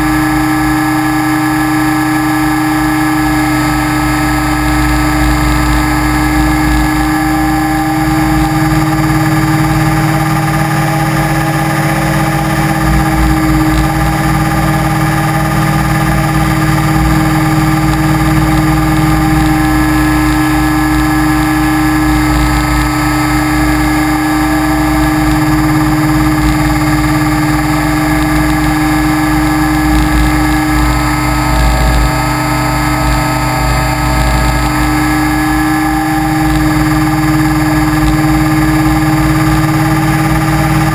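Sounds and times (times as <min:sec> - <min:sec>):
model aircraft motor humming: 0:00.0 - 0:40.9.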